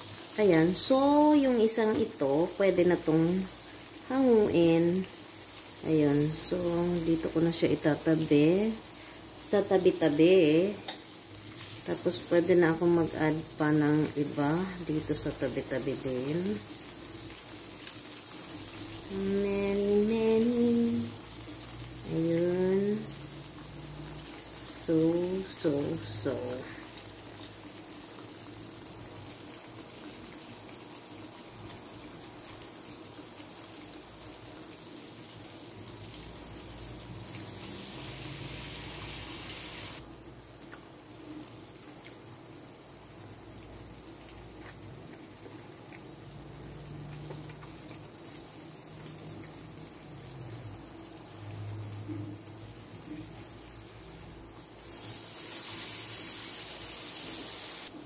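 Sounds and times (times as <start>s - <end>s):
chicken frying in oil: 0.0s - 58.0s.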